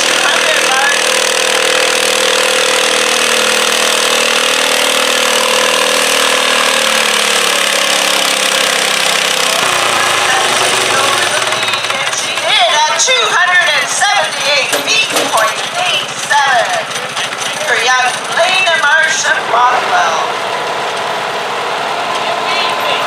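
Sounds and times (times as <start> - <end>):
tractor engine at full throttle: 0.0 - 23.0.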